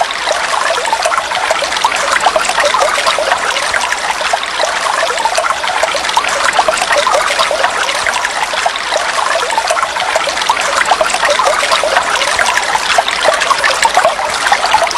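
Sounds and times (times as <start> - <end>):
water trickling and bubbling: 0.0 - 14.9.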